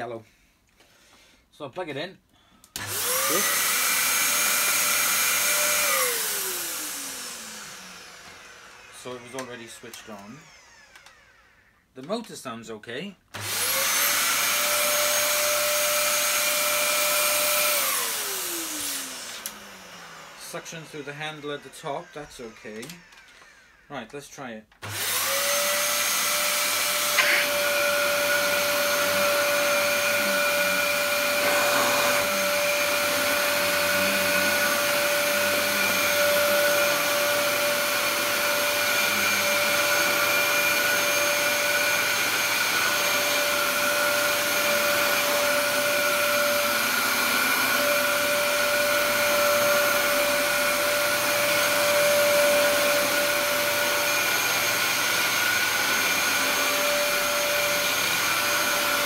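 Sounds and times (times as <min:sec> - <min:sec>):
vacuum cleaner running on carpet: 0:02.8 - 0:11.7, 0:13.4 - 0:23.9, 0:24.8 - 0:59.0.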